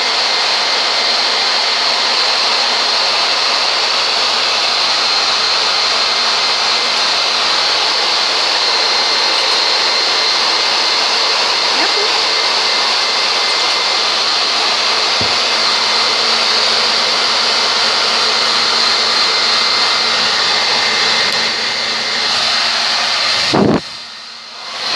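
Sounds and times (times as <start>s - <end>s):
blow dryer running: 0.0s - 24.9s.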